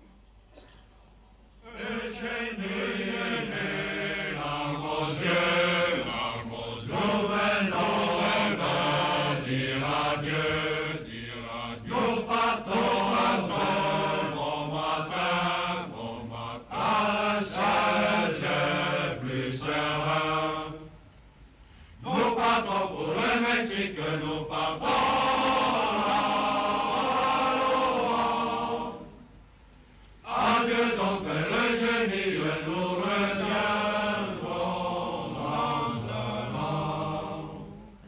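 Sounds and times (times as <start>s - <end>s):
men's chorus singing: 1.6s - 21.0s, 22.0s - 29.2s, 30.2s - 38.0s.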